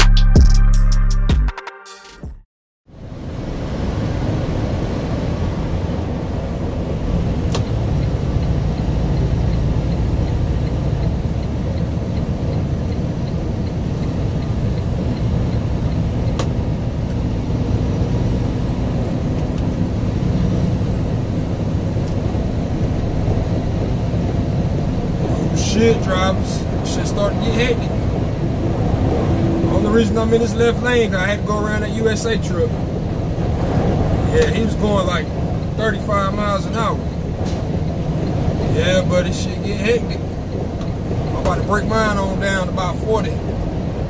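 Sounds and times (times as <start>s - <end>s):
truck engine drone: 2.9s - 44.0s
tyre and road noise: 3.0s - 44.0s.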